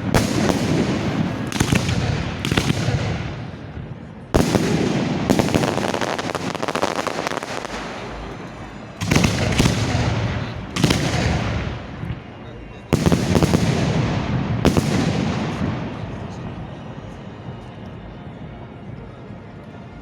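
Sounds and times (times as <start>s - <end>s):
fireworks bursting: 0.0s - 17.6s
fireworks crackling: 0.0s - 17.6s.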